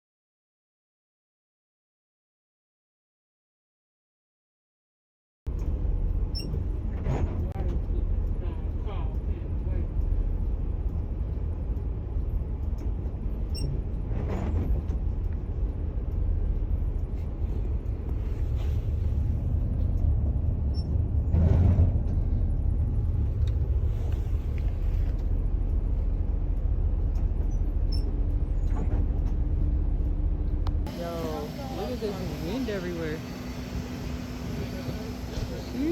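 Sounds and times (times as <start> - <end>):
low vehicle rumble: 5.5 - 35.9.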